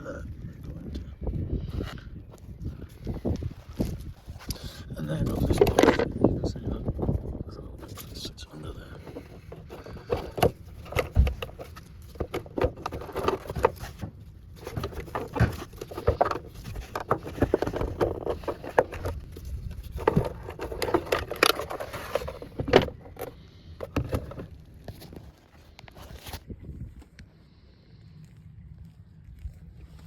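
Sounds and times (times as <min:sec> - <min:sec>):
plastic housing clicks and scrapes: 0:01.6 - 0:27.3.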